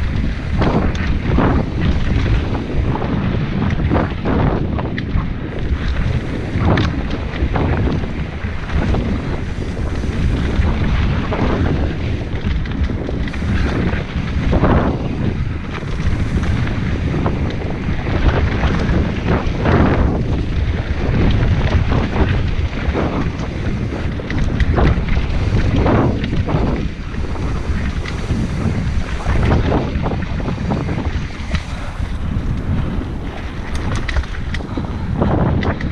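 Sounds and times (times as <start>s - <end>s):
bike knocks and rattles: 0.0s - 35.9s
tyres rumbling on dirt: 0.0s - 35.9s
wind buffeting microphone: 0.0s - 35.9s.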